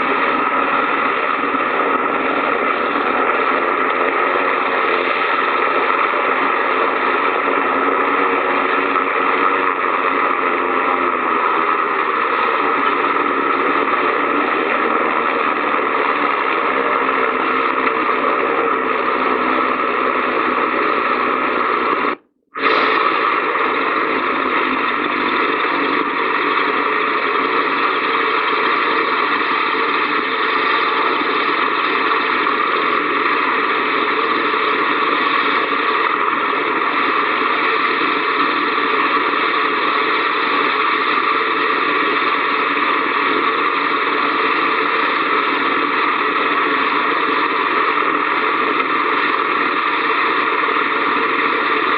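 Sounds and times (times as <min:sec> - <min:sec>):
hovercraft turbine and propeller: 0:00.0 - 0:51.9.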